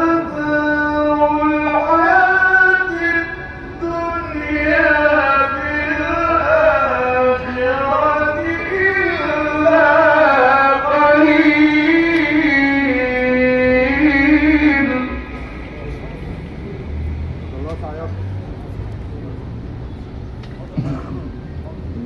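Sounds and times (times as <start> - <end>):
man chanting through a microphone: 0.0 - 18.3.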